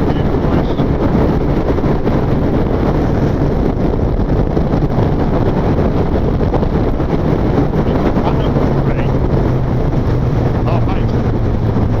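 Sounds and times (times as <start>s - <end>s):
motorcycle engine: 0.0s - 12.0s
road noise: 0.0s - 12.0s
wind rush on microphone: 0.0s - 12.0s.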